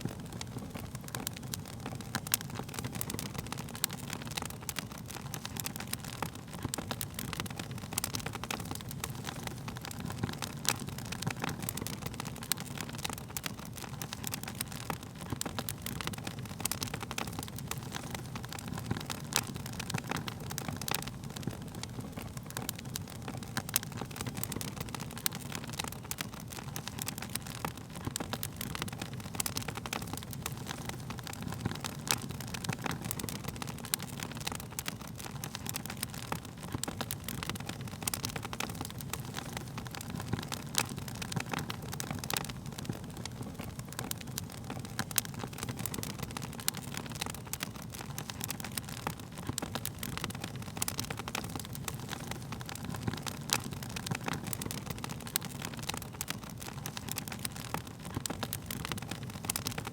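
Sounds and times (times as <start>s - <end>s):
flames rumbling: 0.0s - 59.9s
wood fire crackling: 0.0s - 59.9s.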